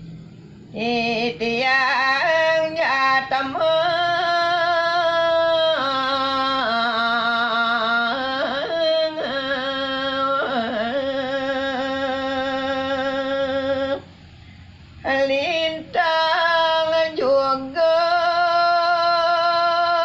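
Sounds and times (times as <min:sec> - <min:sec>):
person singing unaccompanied: 0:00.0 - 0:20.0.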